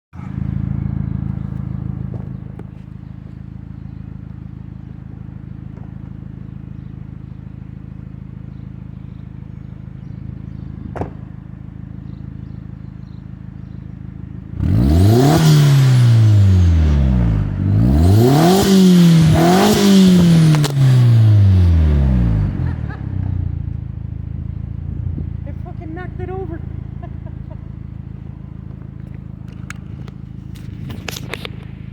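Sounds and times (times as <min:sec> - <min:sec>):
car engine idling and revving: 0:00.1 - 0:31.9.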